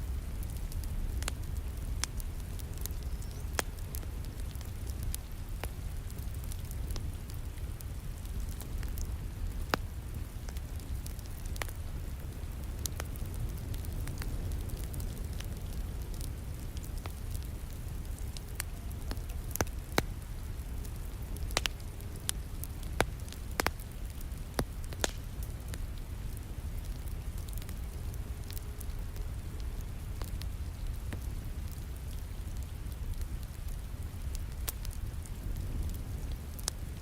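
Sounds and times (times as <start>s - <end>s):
rain: 0.0s - 37.0s
wood fire crackling and popping: 0.0s - 37.0s.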